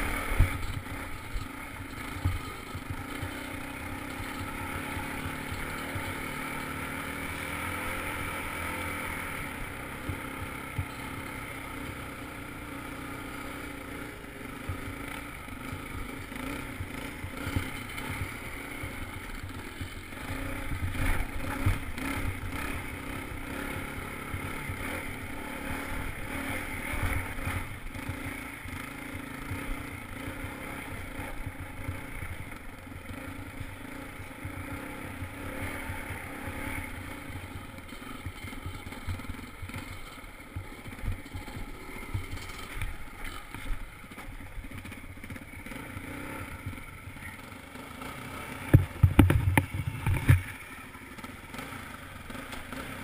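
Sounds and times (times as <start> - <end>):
dirt bike engine running: 0.0 - 53.0.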